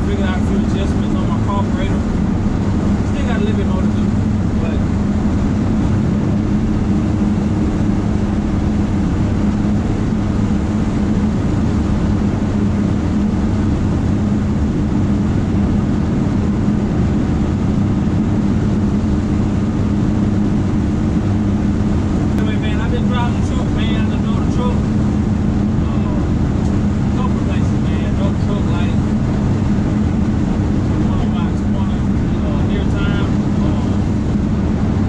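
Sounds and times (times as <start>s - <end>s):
pickup engine droning: 0.0s - 35.0s
road noise: 0.0s - 35.0s.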